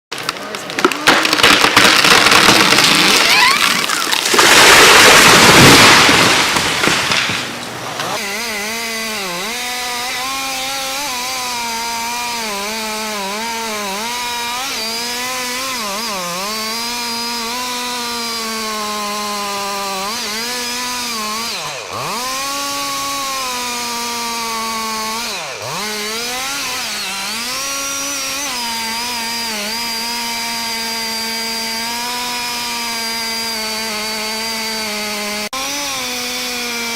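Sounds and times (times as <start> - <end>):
chainsaw running at high revs: 0.1 - 36.9.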